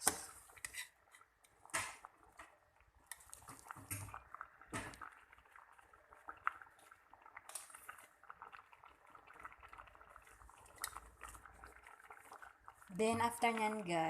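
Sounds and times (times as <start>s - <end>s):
pot simmering with small pops: 0.0s - 14.0s.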